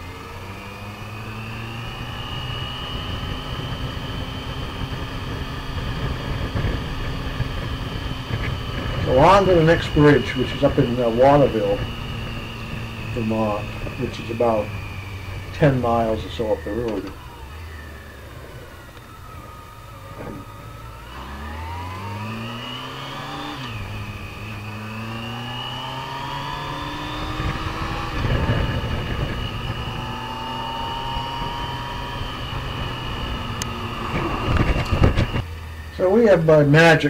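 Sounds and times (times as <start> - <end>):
motorcycle engine accelerating: 0.0 - 37.0
wind noise: 0.0 - 37.0.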